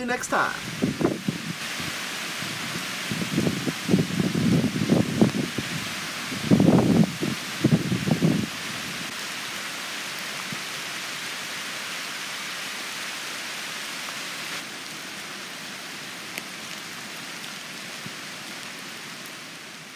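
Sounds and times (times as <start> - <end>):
steady rain hiss: 0.0 - 19.9.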